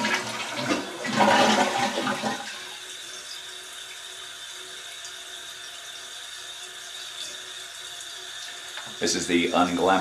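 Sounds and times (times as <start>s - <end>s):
toilet flush rushing: 0.0s - 10.0s.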